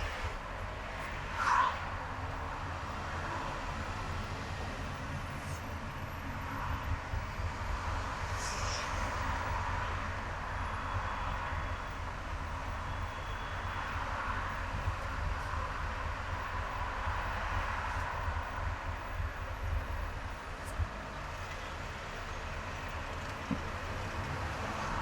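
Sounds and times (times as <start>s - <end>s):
car driving on highway: 0.0s - 25.0s.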